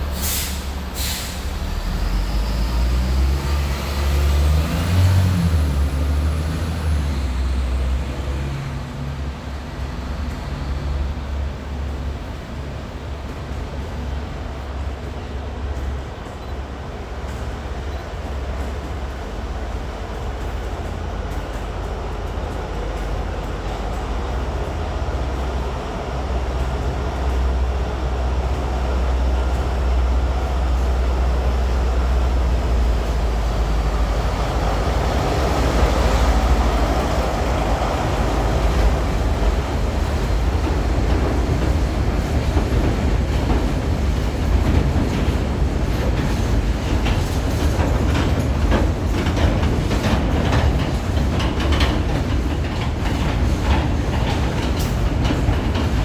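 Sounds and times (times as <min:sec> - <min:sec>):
train engine drone: 0:00.0 - 0:56.0
train wheels clicking on rails: 0:00.0 - 0:56.0.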